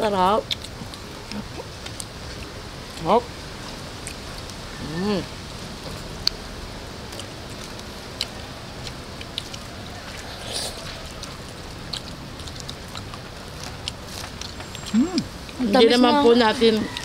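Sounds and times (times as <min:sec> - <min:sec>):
low background noise: 0:00.0 - 0:17.0
people chewing food: 0:00.0 - 0:17.0.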